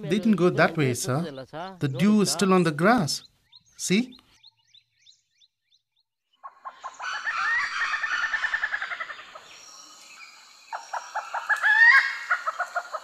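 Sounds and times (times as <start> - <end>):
forest birds calling: 0.0 - 13.0.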